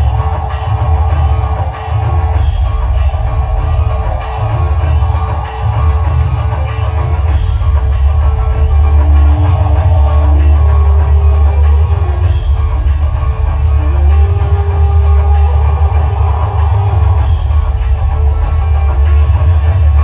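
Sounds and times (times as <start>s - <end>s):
loud music with heavy bass: 0.0s - 20.0s.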